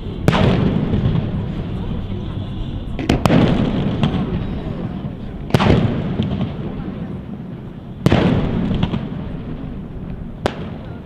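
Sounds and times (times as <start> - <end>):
firework shells bursting: 0.0 - 11.0
rolling echo: 0.0 - 11.0.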